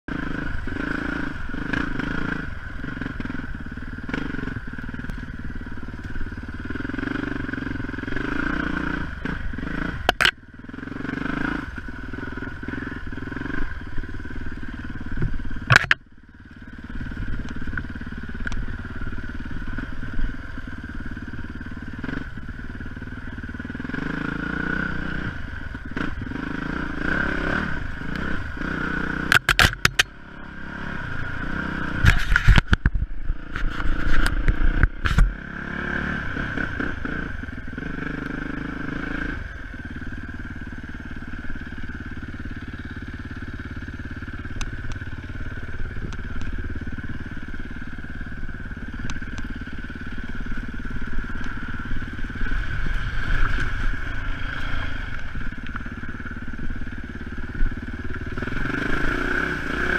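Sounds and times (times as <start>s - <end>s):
dirt bike engine running: 0.1s - 59.9s.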